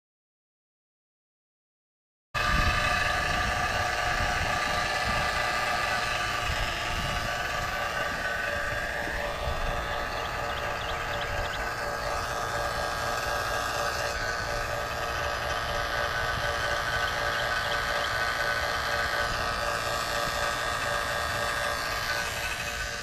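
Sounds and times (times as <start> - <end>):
electric vacuum pump whine: 2.4 - 23.0.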